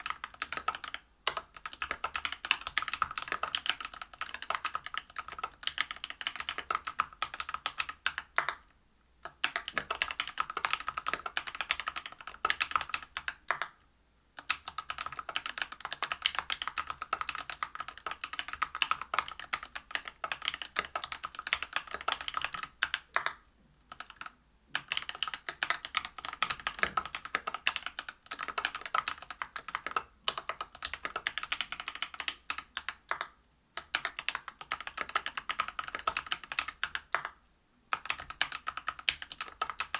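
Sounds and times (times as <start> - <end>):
fast typing on mechanical keyboard: 0.0 - 8.6, 9.3 - 13.7, 14.4 - 39.9.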